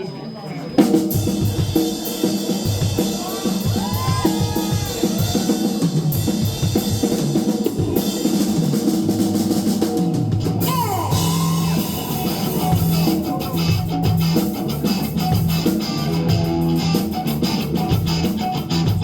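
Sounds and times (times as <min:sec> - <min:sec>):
drum kit beating: 0:00.8 - 0:19.0
bass guitar: 0:01.1 - 0:19.0
electric guitar: 0:01.1 - 0:19.0.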